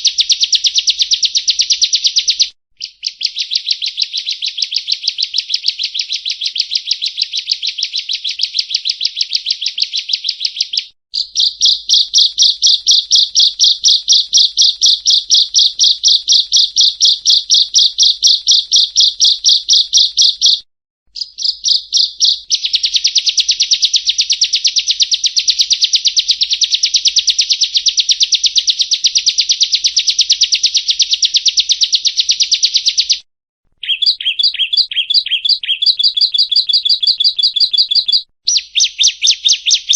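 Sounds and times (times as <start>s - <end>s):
bird song rapid high notes: 0.0s - 33.2s, 33.8s - 39.9s.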